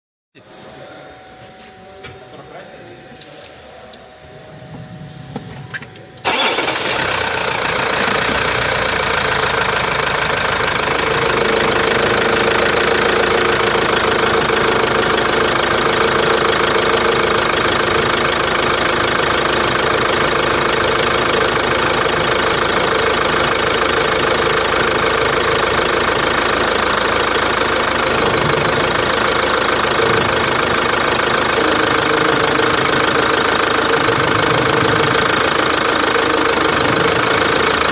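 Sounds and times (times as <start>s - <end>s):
extraneous engine noise: 4.3s - 37.9s
diesel engine starting and idling: 4.4s - 37.9s.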